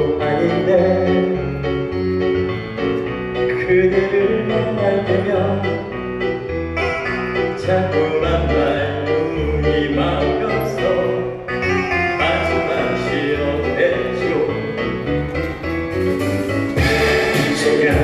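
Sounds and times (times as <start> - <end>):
instrumental ballad accompaniment: 0.0 - 18.0.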